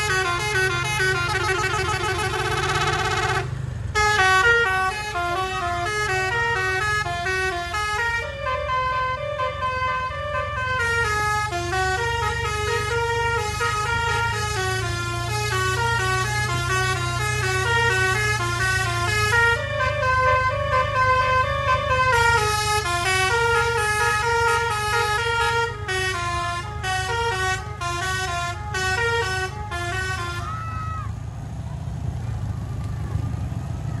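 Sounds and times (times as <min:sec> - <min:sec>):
bus air horn playing a tune: 0:00.0 - 0:31.1
low engine rumble: 0:00.0 - 0:34.0.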